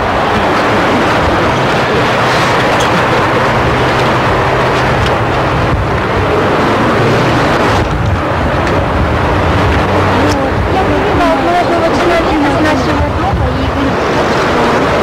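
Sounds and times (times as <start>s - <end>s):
low engine hum: 0.0s - 15.0s
road traffic noise: 0.0s - 15.0s.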